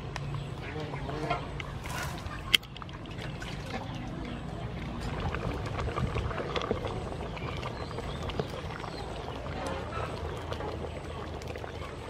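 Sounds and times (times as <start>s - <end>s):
curry boiling in a pot: 0.0s - 12.0s
liquid sloshing: 1.2s - 12.0s.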